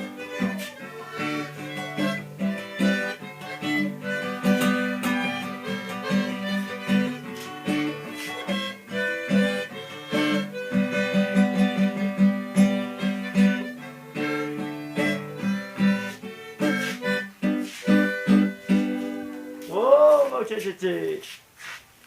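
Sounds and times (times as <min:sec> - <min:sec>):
electronic keyboard folk music: 0:00.0 - 0:19.8.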